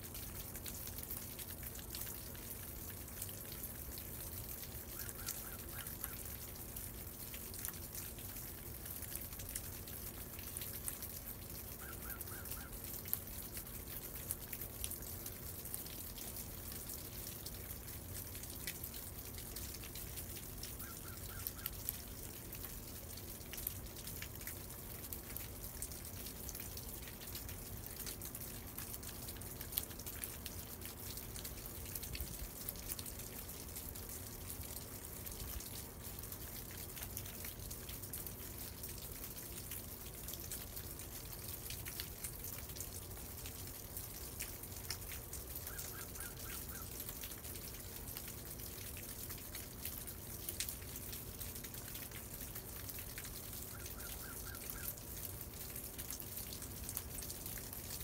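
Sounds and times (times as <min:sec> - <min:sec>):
meltwater dripping: 0:00.0 - 0:58.0.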